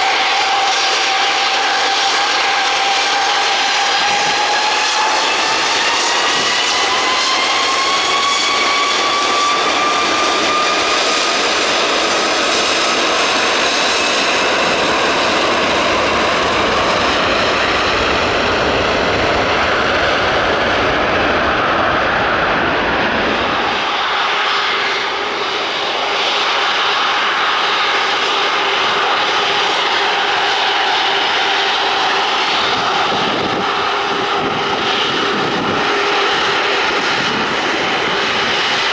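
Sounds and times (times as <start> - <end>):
jet engines steady lower hum: 0.0 - 38.9
jet engines whining at takeoff: 0.0 - 38.9
jet noise with deep rumble: 0.0 - 38.9.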